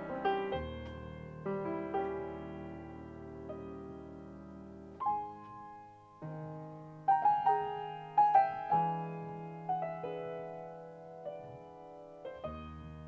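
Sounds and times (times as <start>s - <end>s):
solo piano playing slowly: 0.0s - 13.0s.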